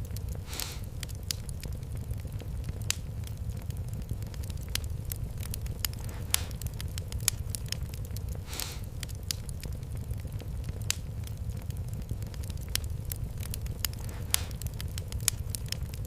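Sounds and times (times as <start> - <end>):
fire crackling in fireplace: 0.0 - 16.0
fire hissing: 0.0 - 16.0.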